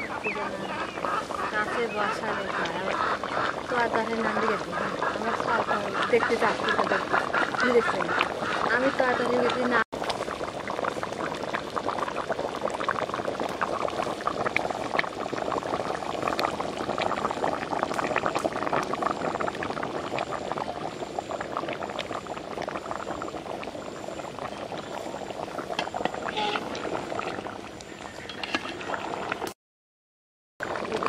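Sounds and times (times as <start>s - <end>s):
curry boiling in metal pot: 0.0s - 29.5s, 30.6s - 31.0s.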